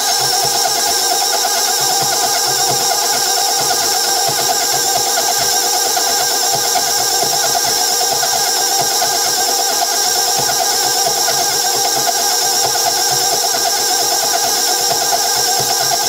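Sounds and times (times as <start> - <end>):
stand mixer motor whine: 0.0 - 16.0.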